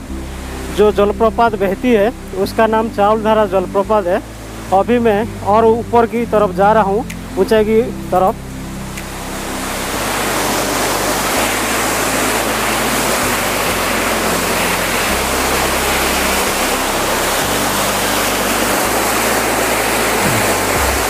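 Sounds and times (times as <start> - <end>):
stream cascading over boulders: 0.0 - 21.0.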